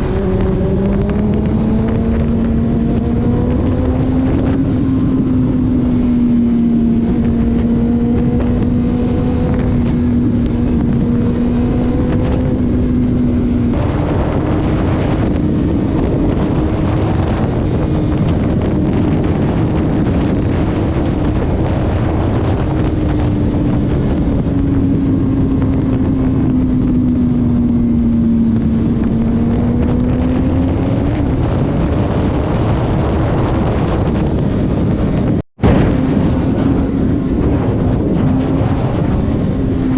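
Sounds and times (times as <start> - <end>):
road noise: 0.0 - 39.9
vehicle engine droning: 0.0 - 39.9
wind noise: 0.0 - 39.9.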